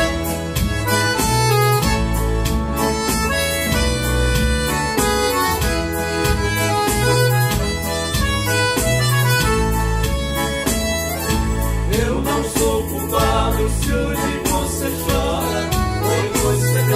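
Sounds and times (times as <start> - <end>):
accordion melody: 0.0 - 16.9
keyboard bass line: 0.0 - 16.9.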